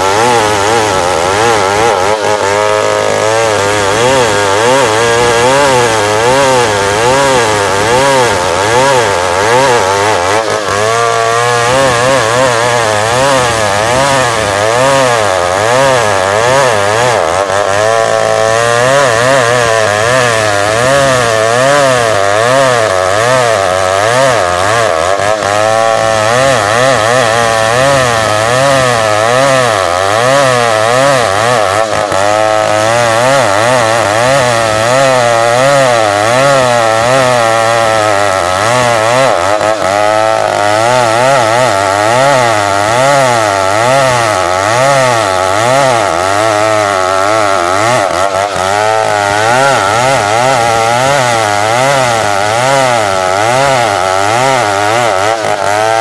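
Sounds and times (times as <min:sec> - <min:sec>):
chainsaw cutting timber: 0:00.0 - 0:56.0.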